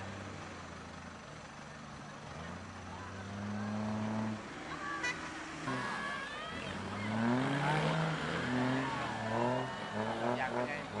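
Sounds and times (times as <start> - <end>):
people's voices: 1.5 - 11.0
truck engine revving: 2.2 - 11.0.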